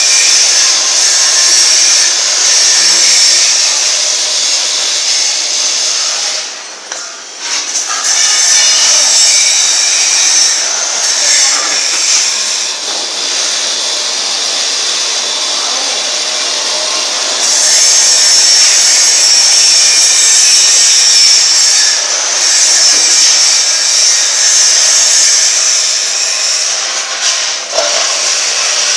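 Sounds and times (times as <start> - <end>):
hydraulic motor and pump hissing: 0.0 - 28.9.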